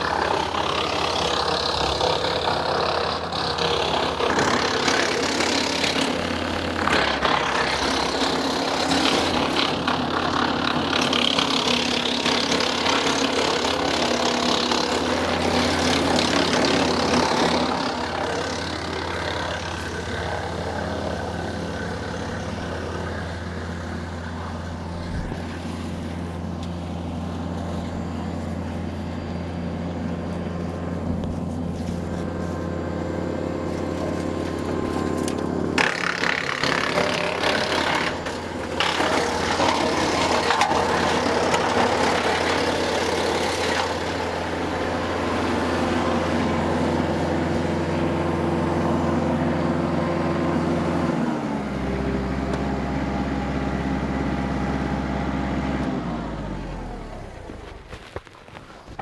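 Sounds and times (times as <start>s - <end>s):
tractor engine hum: 0.0s - 59.0s
wood chipper chipping branches: 0.0s - 59.0s.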